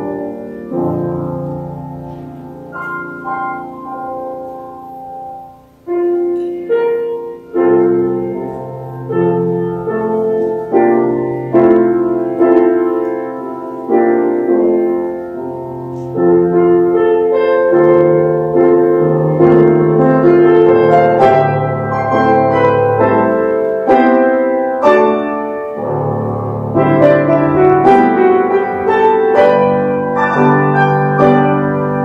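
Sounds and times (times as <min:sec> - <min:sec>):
piano playing slow chords: 0:00.0 - 0:32.0.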